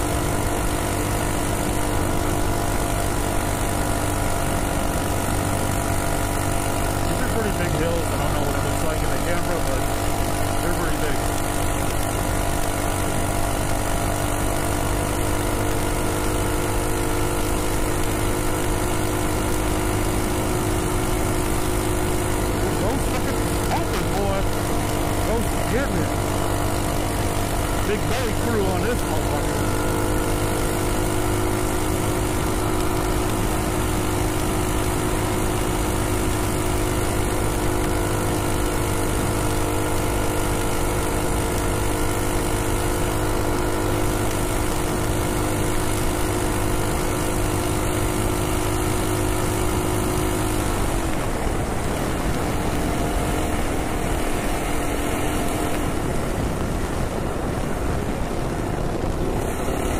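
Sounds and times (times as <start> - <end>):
minibike engine at high throttle: 0.0 - 59.9
wind and road rush: 0.0 - 59.9.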